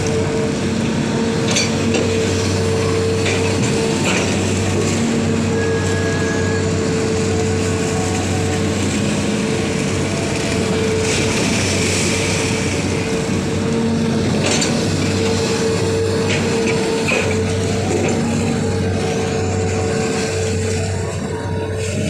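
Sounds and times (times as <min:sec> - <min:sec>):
excavator engine humming: 0:00.0 - 0:22.0.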